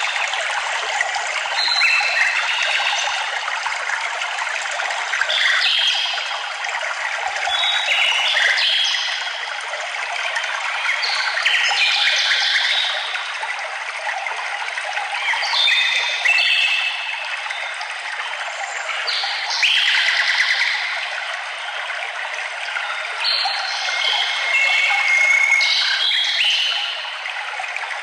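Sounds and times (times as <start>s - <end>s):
stream running: 0.0s - 28.0s.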